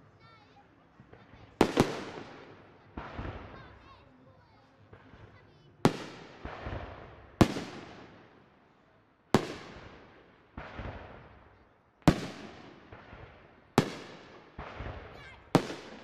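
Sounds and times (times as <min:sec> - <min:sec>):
fireworks bursting with bangs: 0:01.1 - 0:08.5, 0:09.3 - 0:16.0.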